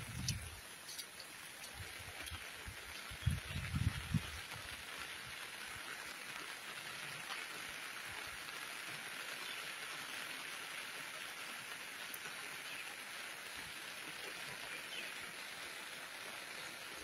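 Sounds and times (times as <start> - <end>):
rain on a wet road: 0.0 - 17.0.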